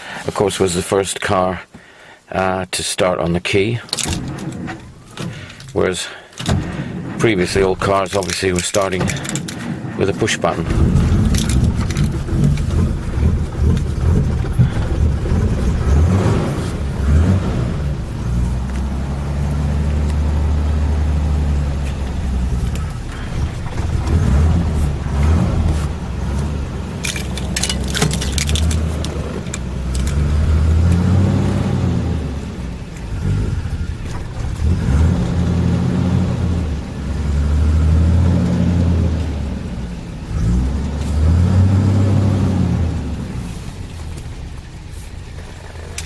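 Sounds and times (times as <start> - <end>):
car engine revving: 6.4 - 46.0.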